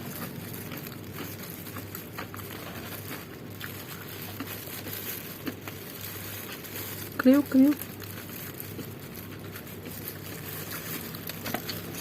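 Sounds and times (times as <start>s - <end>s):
chewing crunchy food: 0.0s - 12.0s
steady background hum: 0.0s - 12.0s.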